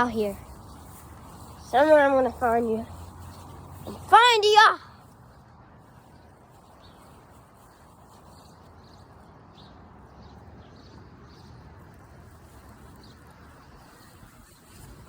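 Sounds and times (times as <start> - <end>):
birds chirping: 0.0 - 15.0
faint outdoor background noise: 0.0 - 15.0.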